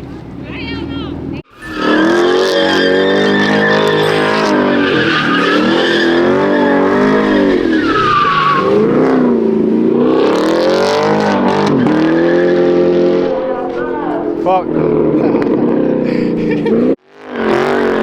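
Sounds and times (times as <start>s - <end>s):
car engine revving high: 0.0s - 18.0s
tires squealing: 0.0s - 18.0s.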